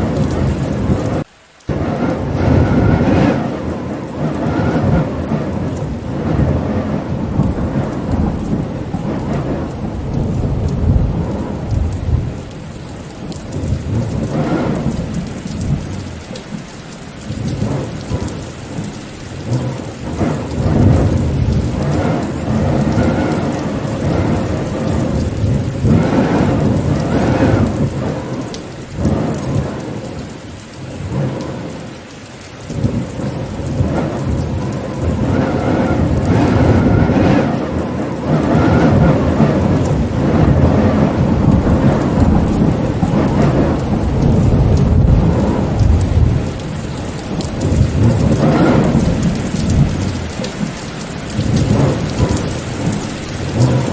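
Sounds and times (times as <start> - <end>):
rain falling: 0.0 - 53.9
thunder rumbling: 0.0 - 53.9.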